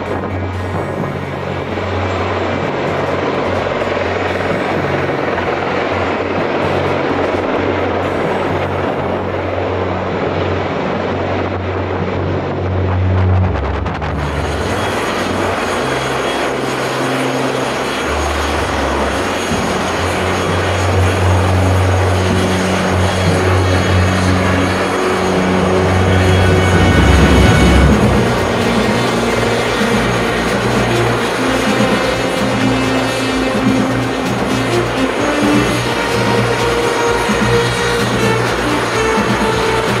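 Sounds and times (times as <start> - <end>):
helicopter turbine and rotor roar: 0.0 - 40.0.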